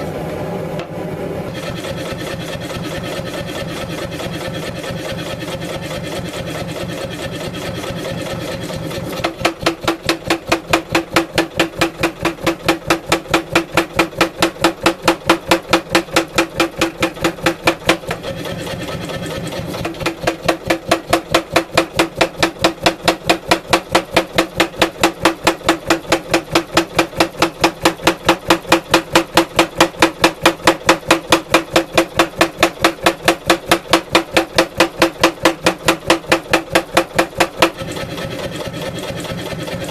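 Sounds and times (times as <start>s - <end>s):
power hammer striking steel: 1.5s - 18.4s, 19.8s - 39.9s.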